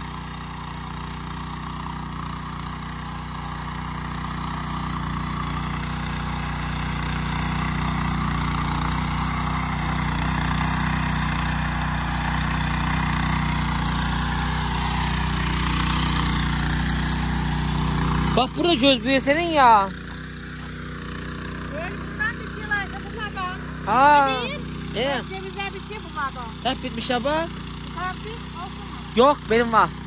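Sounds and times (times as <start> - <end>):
tiller engine running: 0.0 - 30.0
tines churning soil: 0.0 - 30.0.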